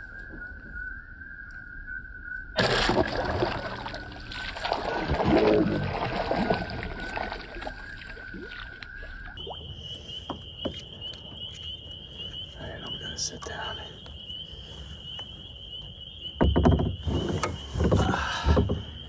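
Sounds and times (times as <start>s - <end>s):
water splashing against kayak hull: 2.6s - 19.0s.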